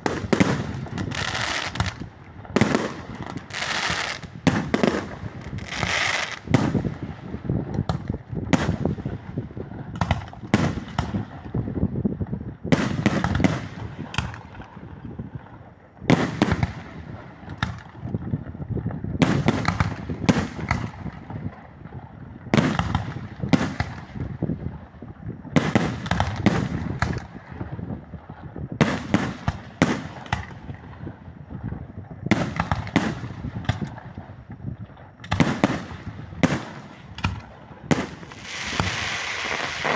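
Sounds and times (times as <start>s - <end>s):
fireworks exploding: 0.0s - 39.9s.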